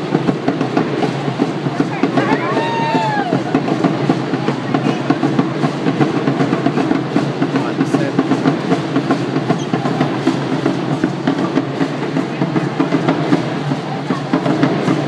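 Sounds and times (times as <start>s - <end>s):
crowd voices: 0.0s - 15.0s
drums beating fast rhythm: 0.0s - 15.0s.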